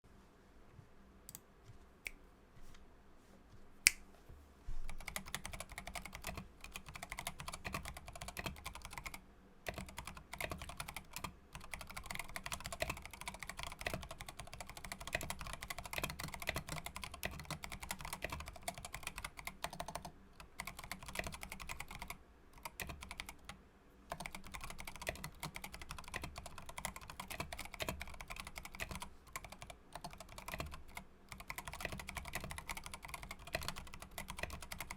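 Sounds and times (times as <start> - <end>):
mechanical keyboard typing: 4.9 - 34.9.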